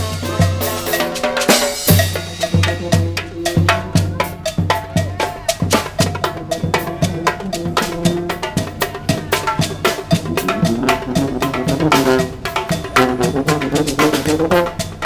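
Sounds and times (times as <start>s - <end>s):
brass street band playing: 0.0s - 15.0s
clacking percussion: 0.0s - 15.0s
drums steady beat: 0.0s - 15.0s.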